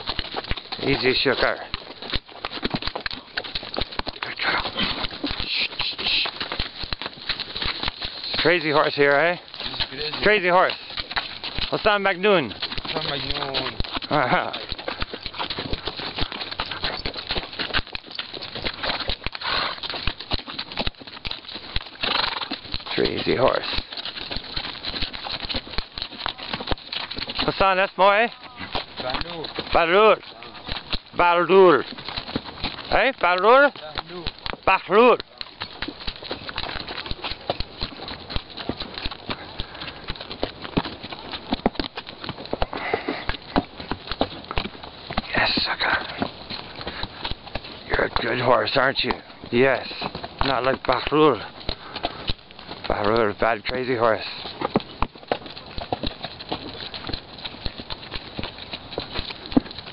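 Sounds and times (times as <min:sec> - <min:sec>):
hoofbeats on gravel: 0:00.0 - 0:59.9
horse hooves on stony sand: 0:00.0 - 0:59.9.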